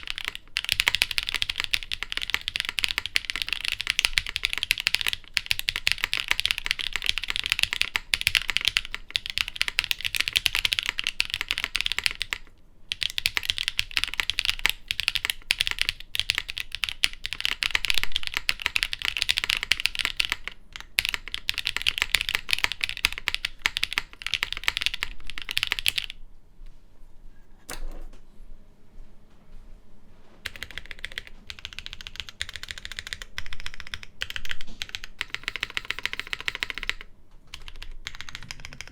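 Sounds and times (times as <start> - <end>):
fast mechanical keyboard typing: 0.0 - 26.2, 30.4 - 38.9.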